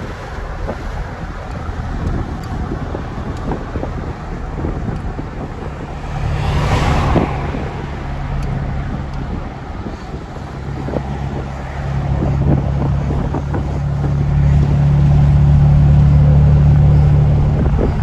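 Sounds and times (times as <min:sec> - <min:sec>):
motor vehicle running: 0:00.0 - 0:18.0
wind on microphone: 0:00.0 - 0:18.0.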